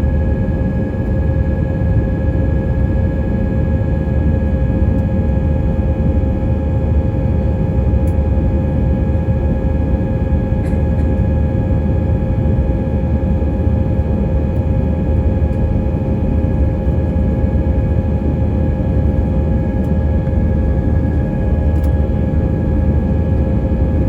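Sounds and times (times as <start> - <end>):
jet engine cabin rumble: 0.0 - 24.0.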